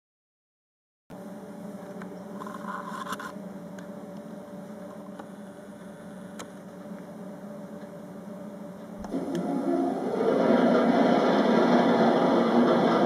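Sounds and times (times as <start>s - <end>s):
low electrical hum: 1.1s - 13.0s.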